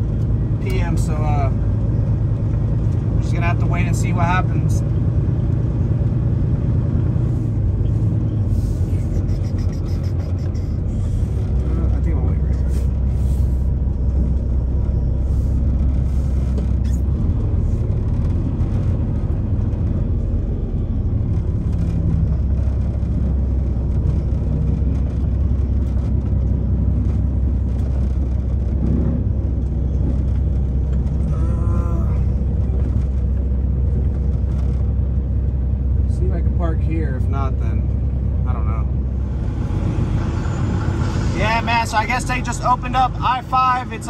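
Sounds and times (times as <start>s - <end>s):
diesel engine rumbling: 0.0s - 44.0s.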